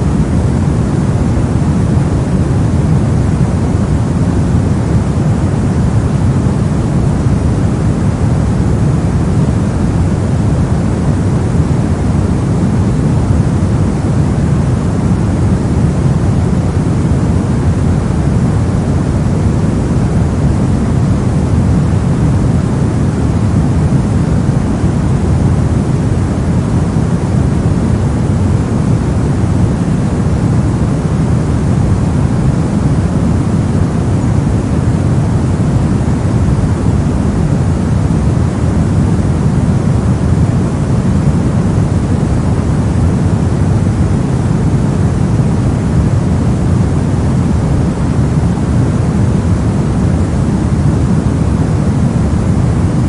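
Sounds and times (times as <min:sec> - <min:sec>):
steady low hiss: 0:00.0 - 0:53.0.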